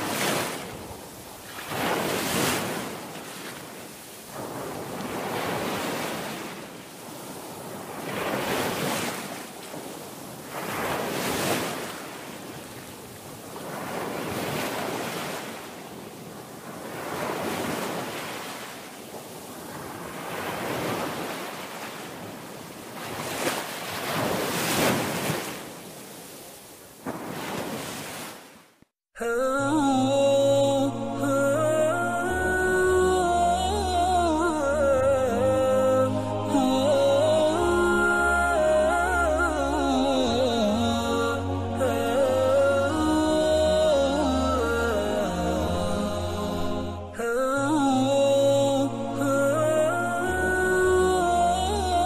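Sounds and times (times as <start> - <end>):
ocean waves washing in: 0.0 - 52.0.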